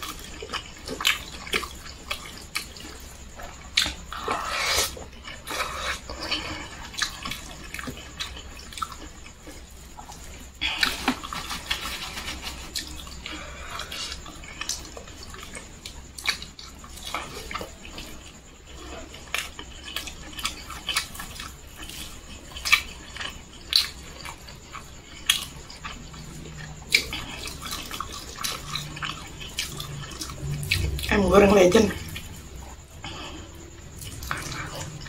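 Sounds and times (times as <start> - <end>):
wet chewing and lip-smacking: 0.0 - 31.2, 31.9 - 35.0
faint low hum: 0.0 - 35.0.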